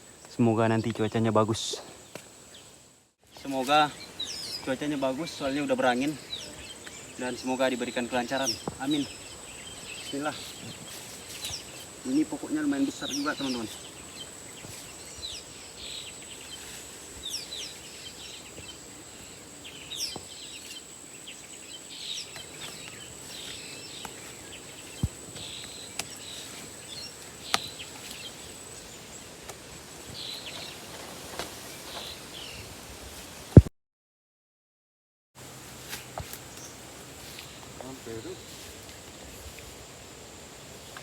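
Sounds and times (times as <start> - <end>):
birds chirping: 0.0 - 32.7, 36.0 - 41.0
outdoor ambience: 0.0 - 33.7, 35.4 - 41.0.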